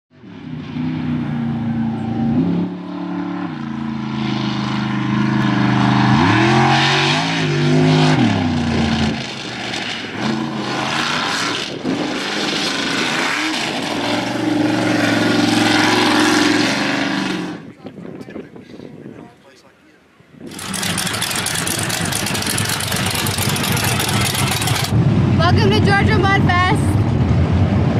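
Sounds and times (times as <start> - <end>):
truck engines revving hard: 0.1 - 17.7, 20.4 - 27.9.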